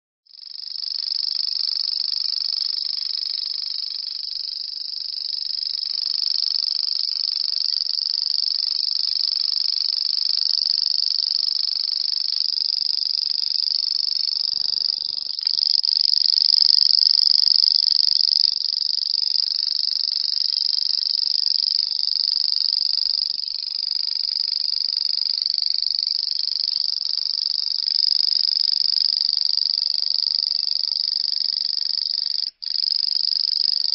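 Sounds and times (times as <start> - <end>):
grasshopper buzzing trill: 0.3 - 33.9.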